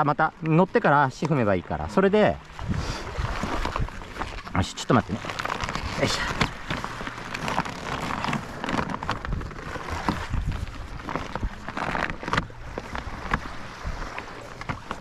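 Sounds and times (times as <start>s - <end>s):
kayak knocks and rustles: 0.8s - 15.0s
wind rumbling on microphone: 2.3s - 15.0s.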